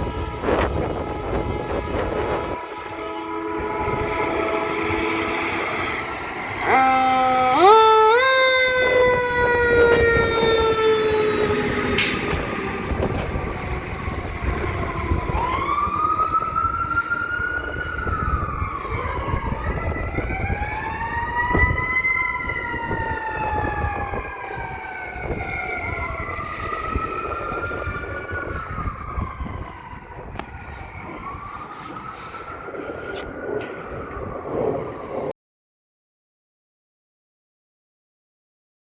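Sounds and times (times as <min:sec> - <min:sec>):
engines and road noise rumbling: 0:00.0 - 0:35.3
sirens wailing: 0:00.0 - 0:35.3.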